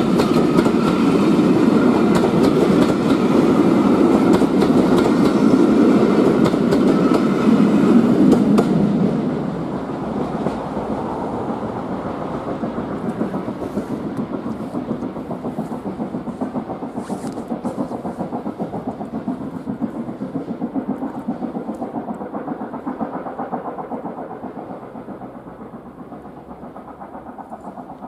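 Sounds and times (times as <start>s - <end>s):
steam locomotive exhaust beats: 0.0s - 28.0s.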